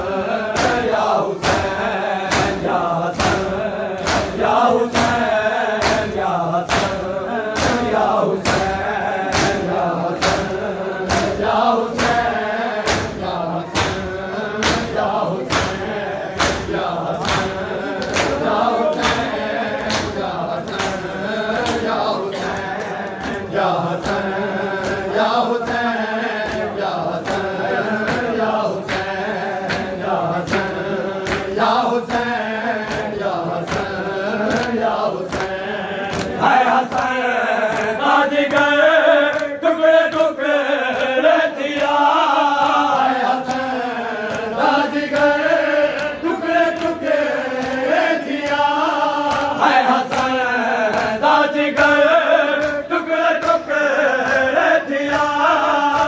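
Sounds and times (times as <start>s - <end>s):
crowd chanting a lament: 0.0s - 56.0s
hand slaps on bare chests: 0.5s - 56.0s.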